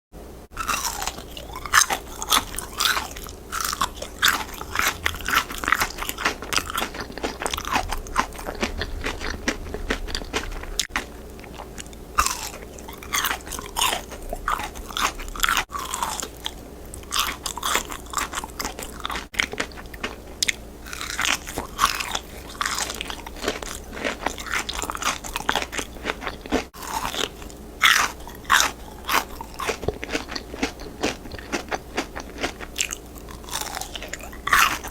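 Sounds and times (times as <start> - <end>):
chewing crispy fried chicken: 0.6 - 34.9.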